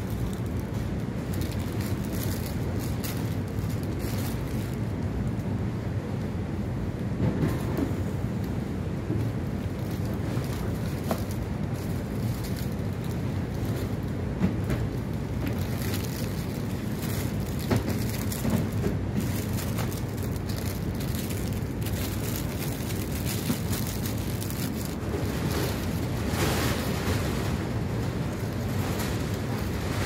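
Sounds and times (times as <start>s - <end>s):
plastic sleeves crinkling: 0.0s - 5.5s, 9.1s - 30.0s
steady low rumble: 0.0s - 30.0s.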